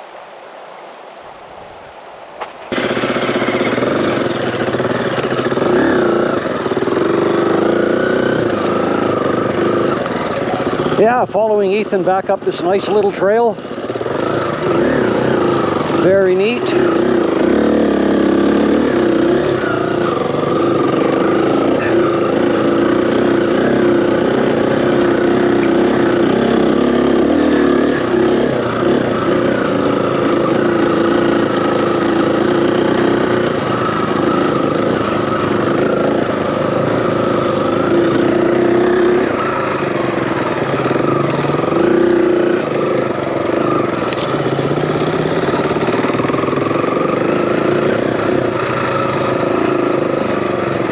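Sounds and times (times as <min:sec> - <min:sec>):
dirt bike engine running: 0:02.7 - 0:50.9.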